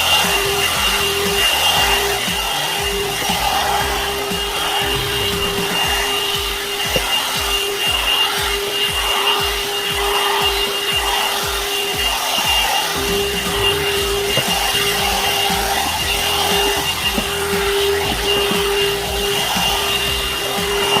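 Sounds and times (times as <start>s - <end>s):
brush rubbing through hair: 0.0s - 21.0s
hair dryer motor whine: 0.0s - 21.0s.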